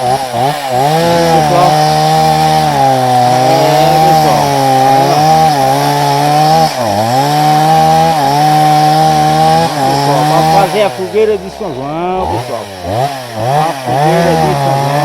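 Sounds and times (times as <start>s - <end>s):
chainsaw cutting through log: 0.0s - 15.0s.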